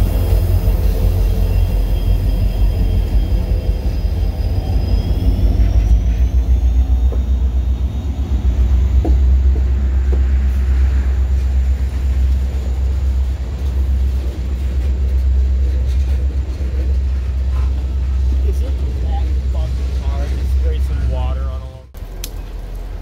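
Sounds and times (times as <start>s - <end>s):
thin high whine: 0.0s - 21.8s
diesel locomotives rumbling: 0.0s - 23.0s
tank cars rolling past: 0.0s - 23.0s.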